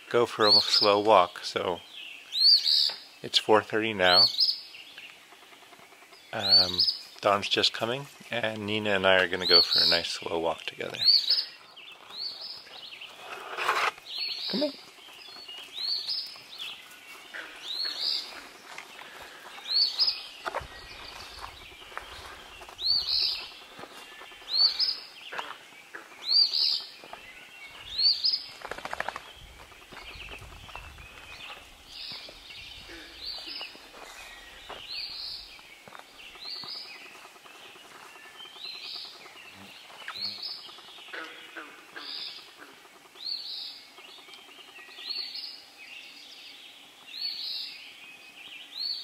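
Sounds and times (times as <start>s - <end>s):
faint dawn chorus: 0.0s - 13.4s, 14.1s - 49.0s
songbird singing: 0.0s - 49.0s.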